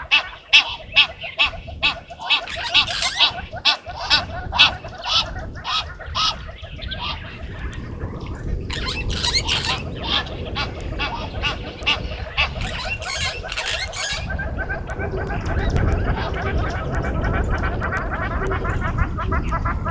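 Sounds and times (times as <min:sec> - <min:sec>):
honking and chattering animal calls: 0:00.0 - 0:07.9, 0:08.7 - 0:19.9.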